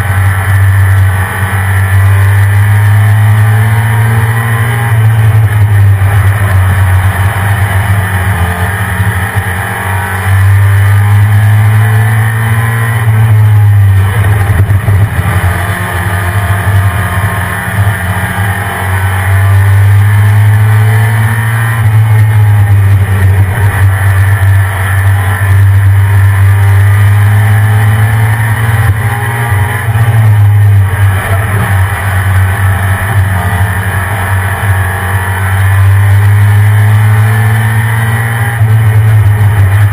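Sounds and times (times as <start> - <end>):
pickup truck engine droning: 0.0 - 39.9.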